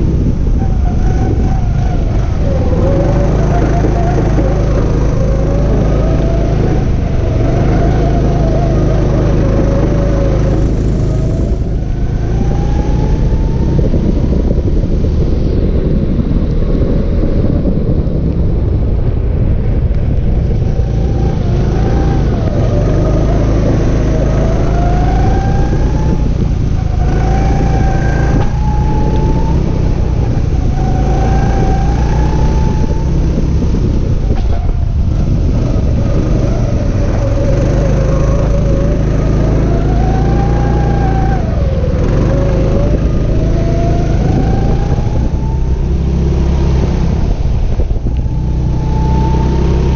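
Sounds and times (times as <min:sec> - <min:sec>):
go-kart engine revving: 0:00.0 - 0:49.9.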